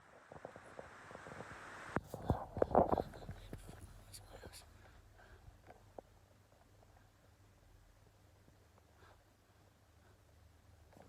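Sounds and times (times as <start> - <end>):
faint soft rustle: 0.0 - 11.0.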